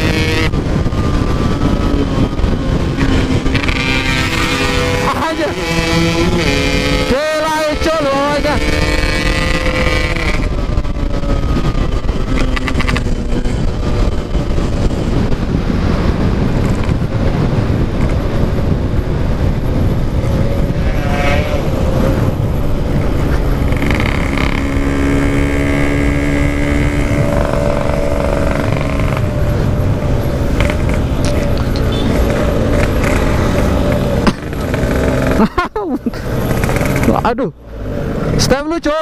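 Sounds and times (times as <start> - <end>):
motorcycle engine running: 0.0 - 37.4
road rush: 0.0 - 39.0.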